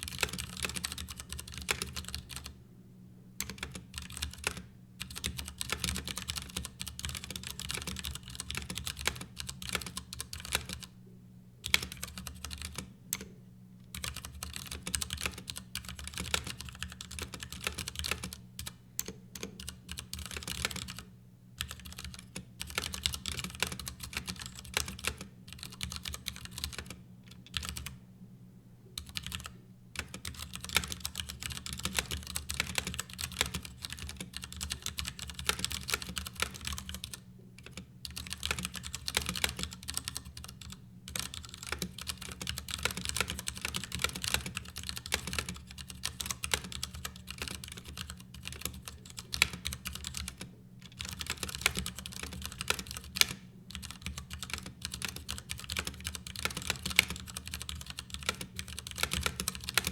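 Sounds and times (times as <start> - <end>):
mechanical keyboard typing: 0.0 - 2.5, 3.4 - 10.9, 11.6 - 13.3, 13.9 - 28.0, 29.0 - 59.9.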